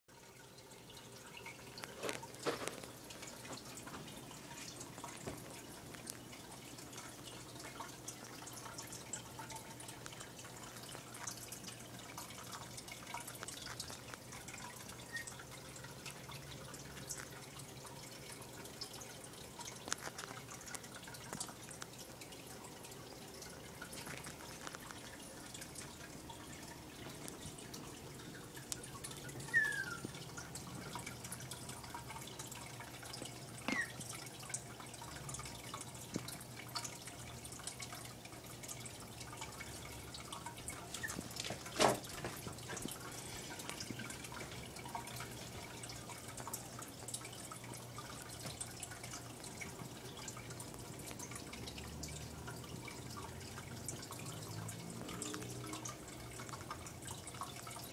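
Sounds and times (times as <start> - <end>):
water dripping and trickling: 0.1 - 57.9.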